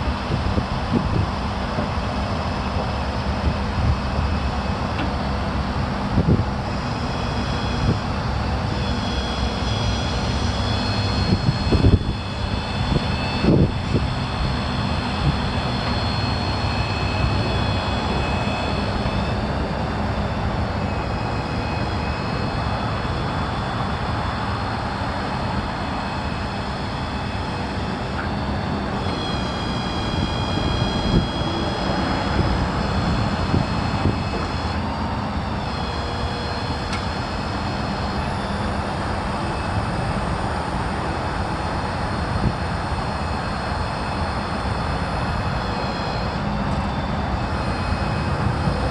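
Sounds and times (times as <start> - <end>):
diesel engine running: 0.0 - 48.9
thin high whine: 0.0 - 48.9.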